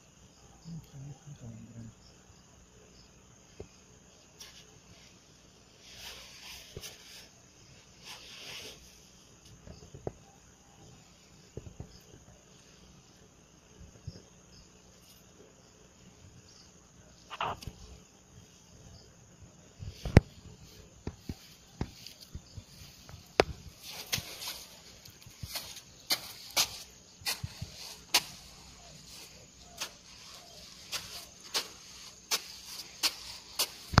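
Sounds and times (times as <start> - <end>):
faint high insect buzz: 0.0 - 34.0.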